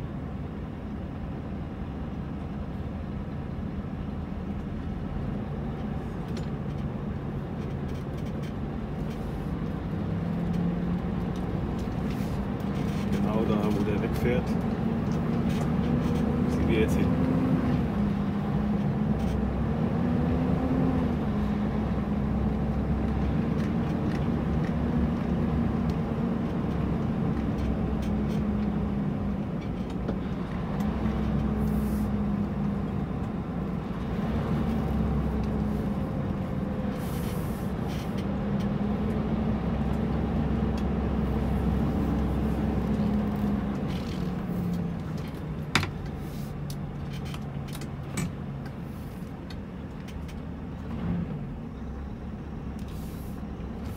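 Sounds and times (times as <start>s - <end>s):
diesel truck engine drone: 0.0s - 53.9s.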